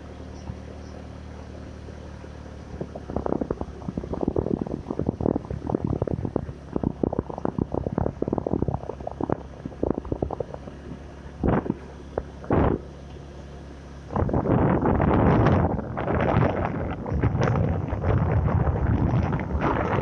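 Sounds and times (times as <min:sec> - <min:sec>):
vehicle engine humming: 0:00.0 - 0:20.0
microphone rumbling and crackling: 0:02.7 - 0:12.9, 0:14.1 - 0:20.0.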